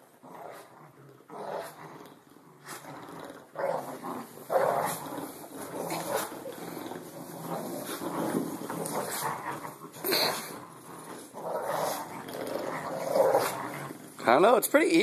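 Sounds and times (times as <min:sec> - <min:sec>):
dogs growling: 0:00.0 - 0:14.4.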